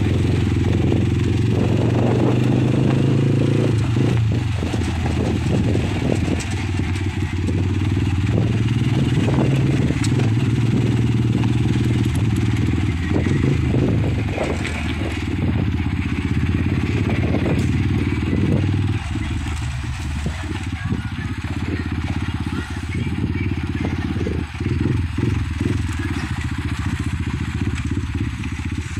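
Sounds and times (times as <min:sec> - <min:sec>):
motorcycle engine running: 0:00.0 - 0:28.9
rattles and clicks: 0:00.4 - 0:28.9.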